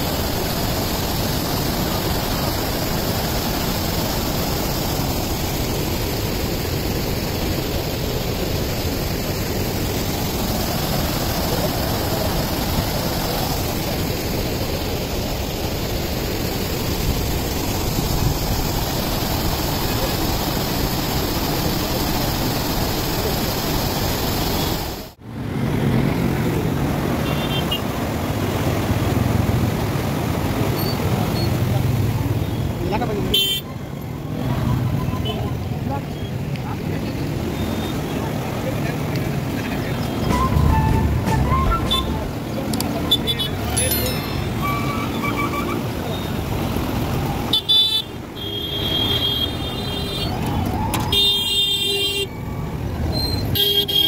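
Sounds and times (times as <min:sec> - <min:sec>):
floodwater rushing and cascading: 0:00.0 - 0:51.1, 0:52.3 - 0:53.2.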